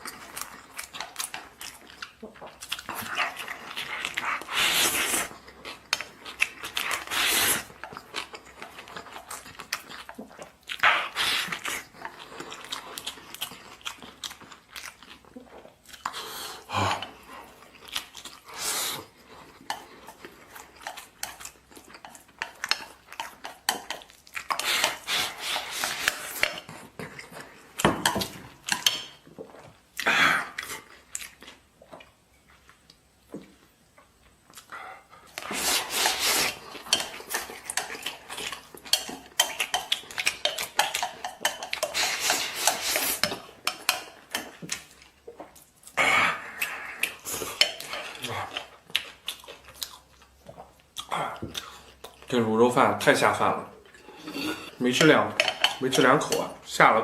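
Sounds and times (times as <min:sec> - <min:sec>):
person chewing and smacking: 0:00.0 - 0:57.0.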